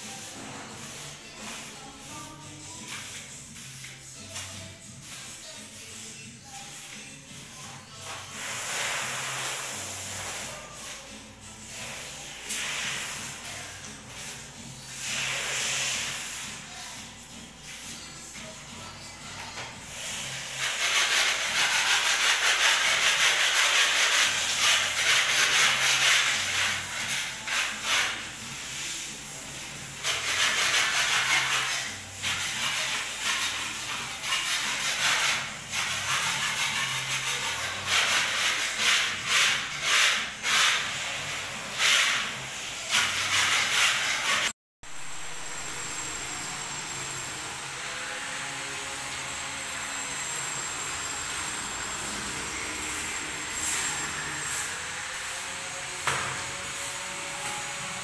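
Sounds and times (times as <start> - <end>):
broom sweeping concrete floor: 0.0 - 44.6, 51.7 - 58.0.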